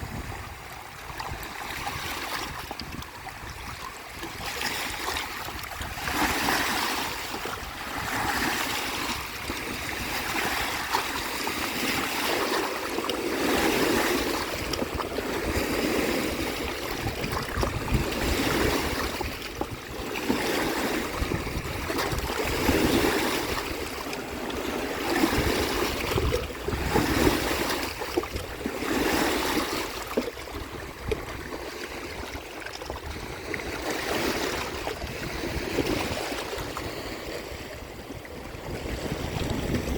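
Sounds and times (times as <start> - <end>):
lake waves washing on shore: 0.0 - 39.9.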